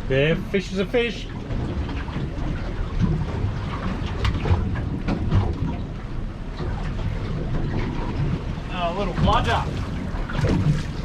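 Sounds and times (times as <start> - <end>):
water slapping hull: 0.0 - 11.0.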